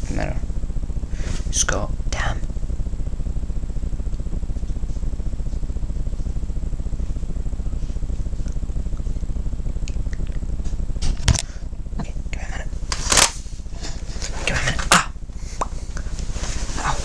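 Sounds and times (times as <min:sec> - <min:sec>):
low buzzing hum with flutter: 0:00.0 - 0:17.0.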